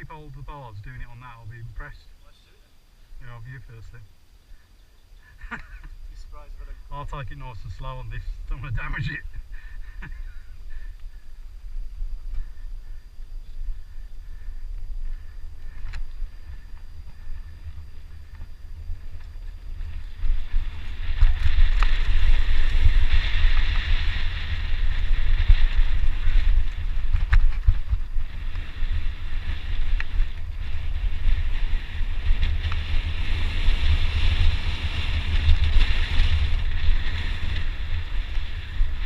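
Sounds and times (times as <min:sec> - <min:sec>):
bike rumbling and rattling: 0:03.0 - 0:39.0
wind buffeting microphone: 0:03.0 - 0:39.0.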